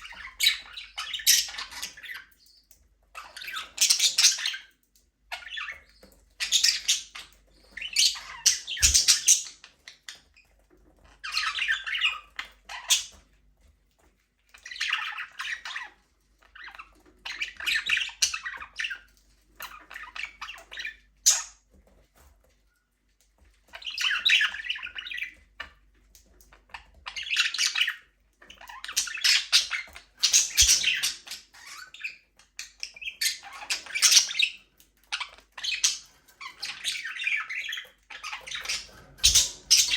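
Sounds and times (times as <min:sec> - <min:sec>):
budgerigars chattering and squawking: 0:00.0 - 0:10.4, 0:11.0 - 0:13.2, 0:14.6 - 0:21.6, 0:23.7 - 0:25.8, 0:26.4 - 0:39.9.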